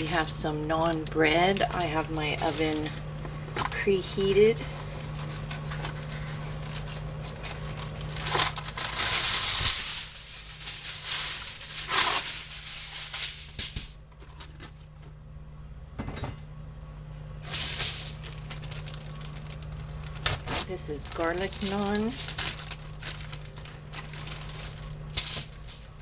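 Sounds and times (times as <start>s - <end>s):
kitchen foil crinkling: 0.0s - 14.9s, 17.4s - 26.0s.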